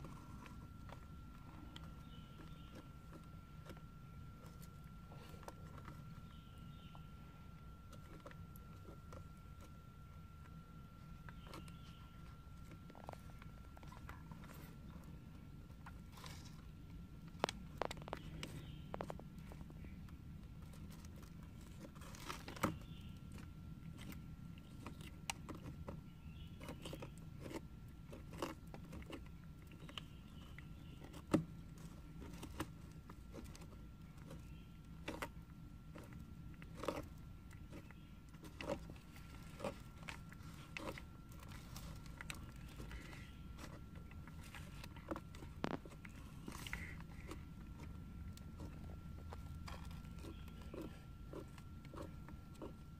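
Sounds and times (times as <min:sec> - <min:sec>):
tortoises crunching carrot: 0:00.0 - 0:52.9.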